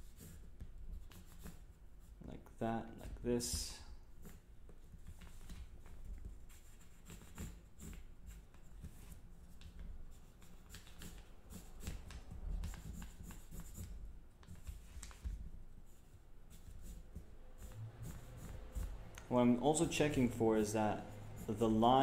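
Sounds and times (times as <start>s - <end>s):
pencil scratching on paper: 0.0s - 2.2s, 3.4s - 22.0s.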